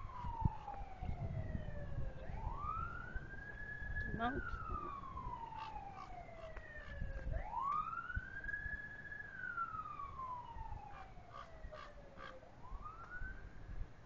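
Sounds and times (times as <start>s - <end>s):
emergency siren wailing: 0.0s - 13.7s.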